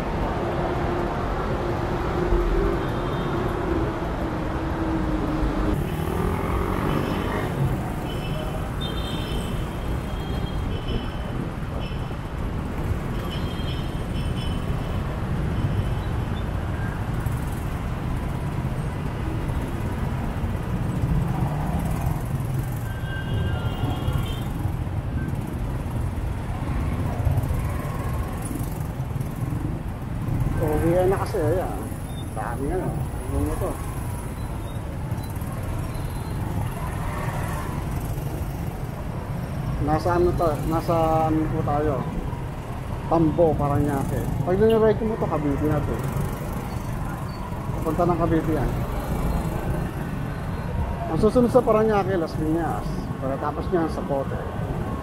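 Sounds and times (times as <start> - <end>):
high traffic tones: 0.0 - 55.0.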